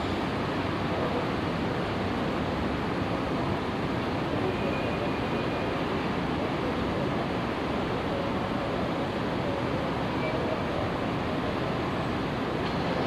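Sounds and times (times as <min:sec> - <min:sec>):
busy railway station rumble: 0:00.0 - 0:13.0.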